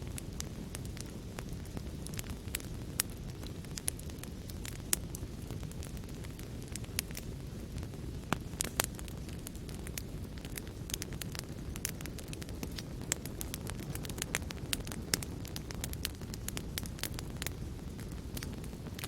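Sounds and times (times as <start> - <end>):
fire crackling and popping: 0.0 - 19.0
low rumble of flame: 0.0 - 19.0.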